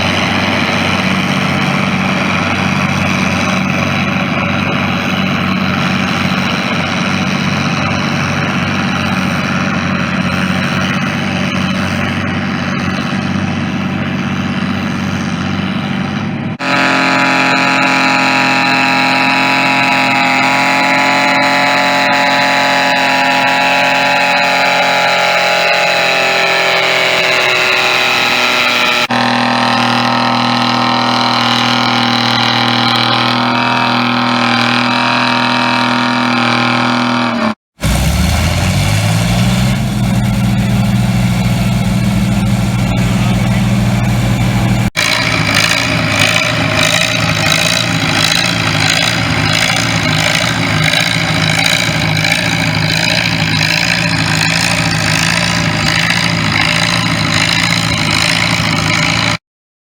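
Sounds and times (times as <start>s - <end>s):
tractor engine revving: 0.0s - 59.4s
tractor engines running: 0.0s - 59.4s.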